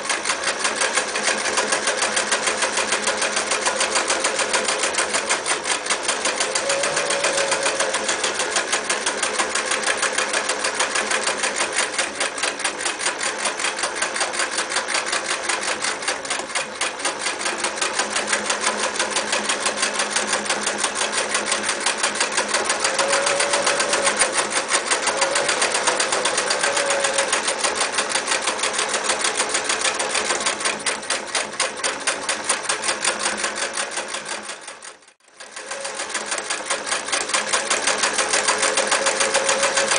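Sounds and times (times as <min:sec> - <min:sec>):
sewing machine stitching: 0:00.0 - 0:39.9.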